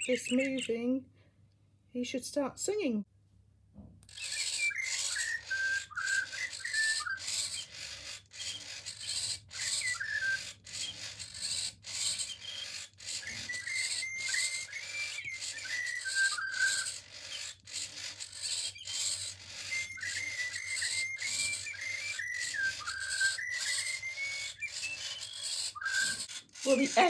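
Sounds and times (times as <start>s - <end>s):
robotic bird electronic birdsong: 0.0s - 0.9s, 4.1s - 27.0s
hissing rasp: 4.1s - 27.0s.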